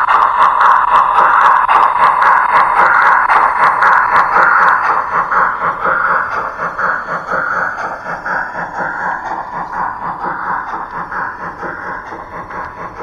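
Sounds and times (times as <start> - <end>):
model train wheels rumbling: 0.0 - 13.0
wheels clicking over rail joints: 0.0 - 13.0.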